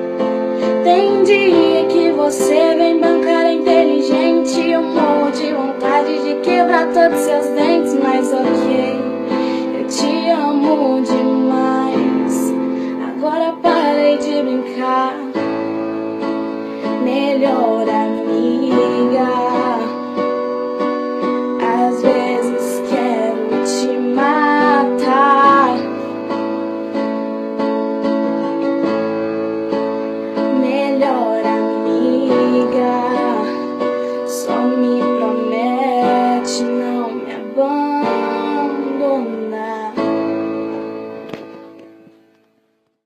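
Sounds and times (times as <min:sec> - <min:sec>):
keyboard chords: 0:00.0 - 0:43.0.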